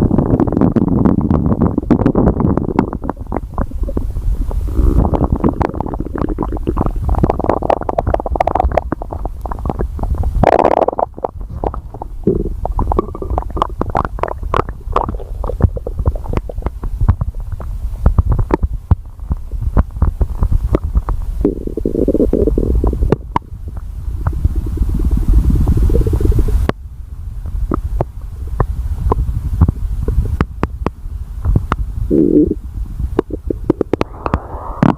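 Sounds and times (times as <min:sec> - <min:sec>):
stomach growling: 0:00.0 - 0:26.7, 0:27.7 - 0:32.6, 0:33.2 - 0:34.9.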